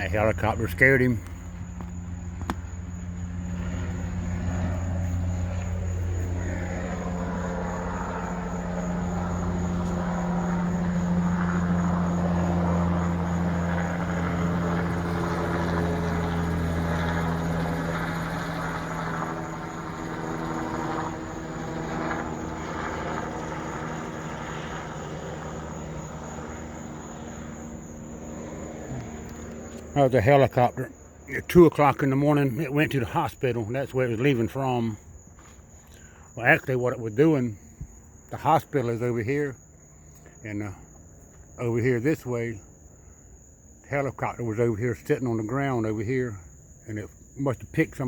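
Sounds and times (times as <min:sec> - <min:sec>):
helicopter flying over: 0:00.0 - 0:48.0.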